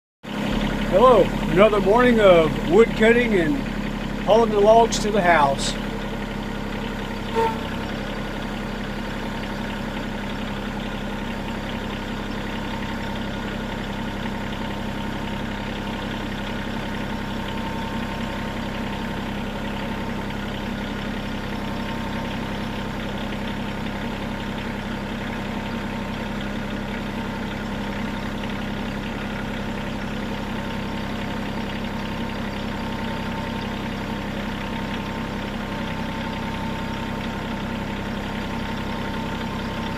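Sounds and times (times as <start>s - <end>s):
tractor engine running steadily: 0.3s - 39.9s.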